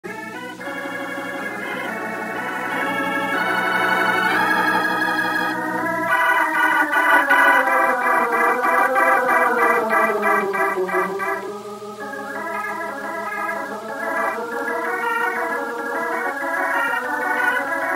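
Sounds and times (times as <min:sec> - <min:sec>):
organ playing chords: 0:00.0 - 0:17.9.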